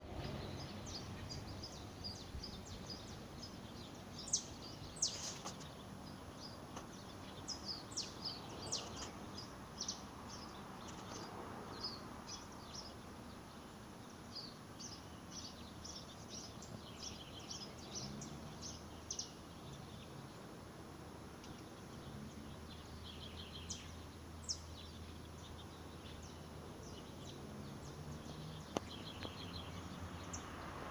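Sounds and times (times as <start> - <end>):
outdoor background hiss: 0.0 - 30.9
small birds chirping: 0.0 - 30.9.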